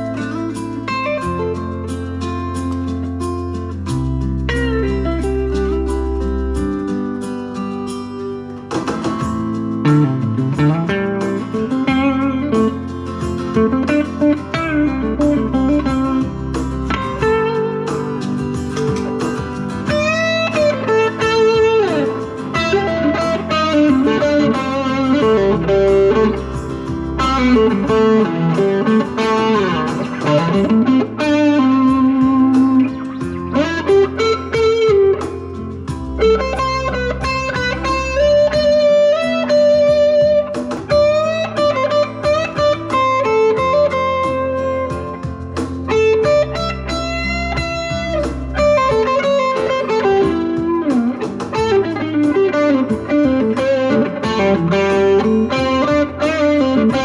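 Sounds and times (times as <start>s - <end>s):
backing track: 0.0s - 57.0s
electric guitar lead lines: 0.0s - 57.0s.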